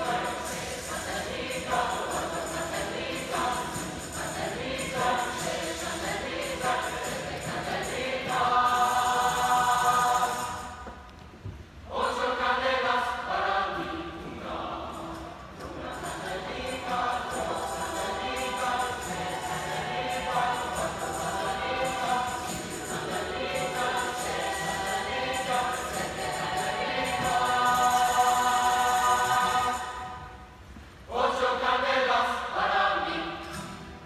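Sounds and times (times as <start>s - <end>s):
choir singing: 0.0s - 10.9s, 11.9s - 33.9s.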